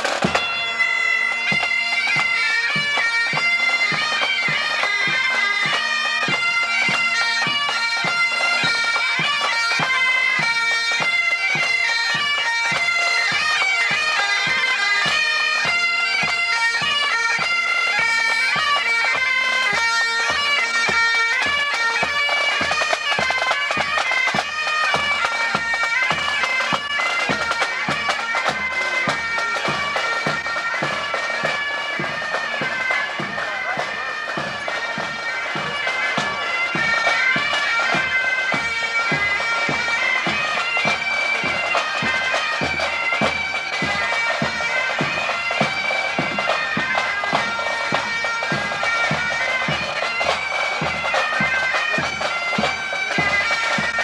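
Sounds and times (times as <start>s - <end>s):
bagpipes playing a march: 0.0s - 54.0s.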